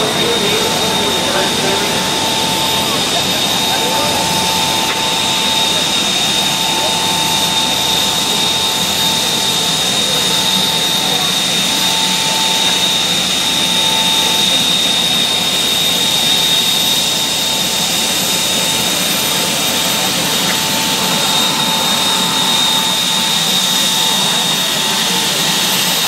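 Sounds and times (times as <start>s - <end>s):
gas turbine engine rushing: 0.0s - 26.0s
high-pitched turbine whine: 0.0s - 26.0s.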